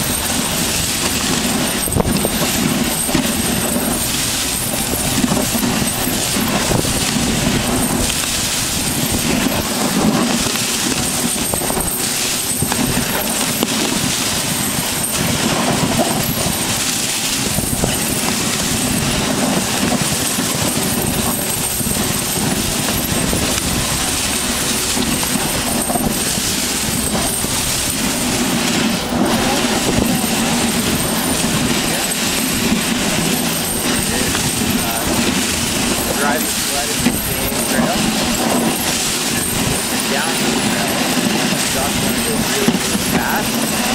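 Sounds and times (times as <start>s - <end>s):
sled frame knocking: 0.0s - 43.9s
sled runners scraping on snow: 0.0s - 43.9s.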